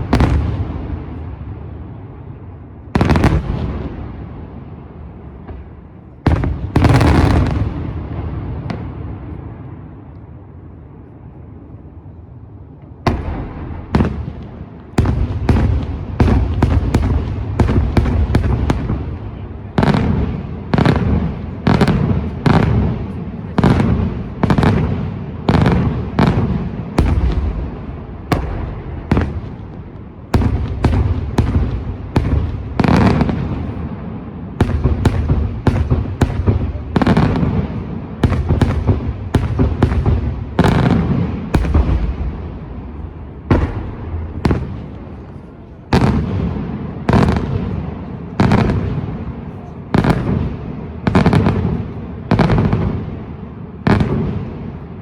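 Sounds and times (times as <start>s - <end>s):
fireworks bangs with echo: 0.0s - 10.6s, 12.9s - 55.0s.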